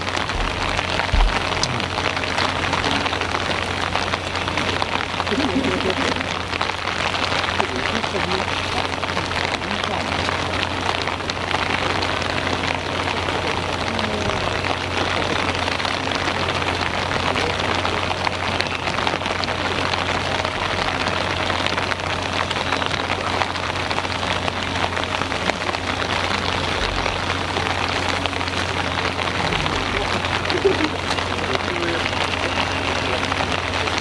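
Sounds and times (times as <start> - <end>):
heavy rain pattering: 0.0 - 34.0
low hum: 0.0 - 34.0.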